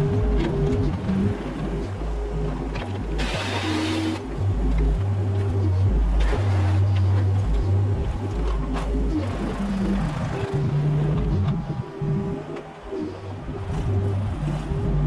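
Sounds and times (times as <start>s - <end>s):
excavator engine rumbling: 0.0s - 15.0s.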